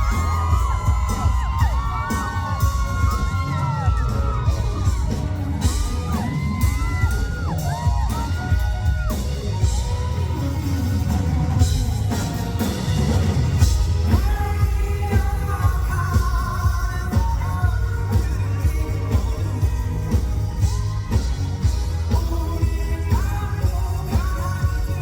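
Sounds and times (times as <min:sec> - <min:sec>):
audience screaming: 0:00.0 - 0:25.0
live pop-rock band and singer: 0:00.0 - 0:25.0.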